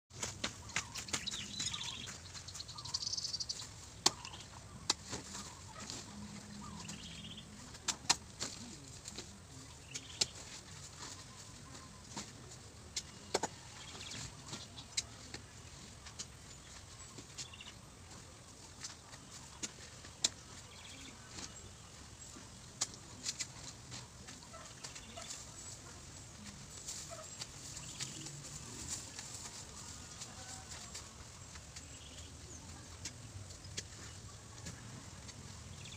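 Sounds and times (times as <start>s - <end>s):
birds chirping: 0.1s - 7.9s, 8.5s - 35.9s.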